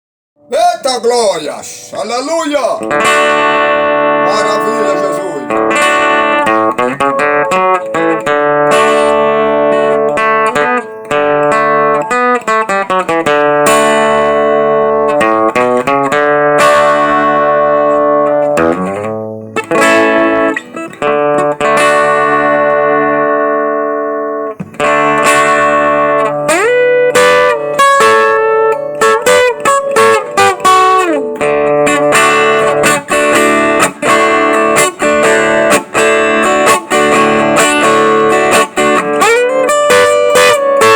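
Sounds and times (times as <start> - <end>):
acoustic guitar melody: 0.4 - 40.9.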